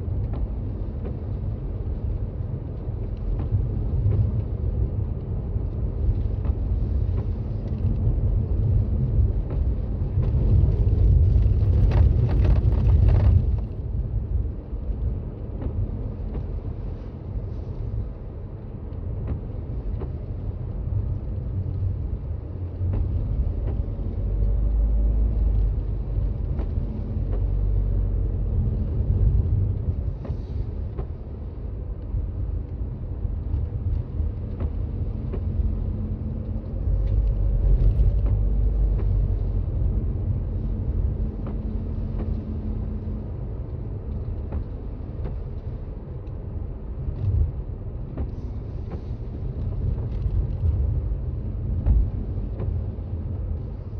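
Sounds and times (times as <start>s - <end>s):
tyres and engine rumble in car: 0.0s - 53.9s.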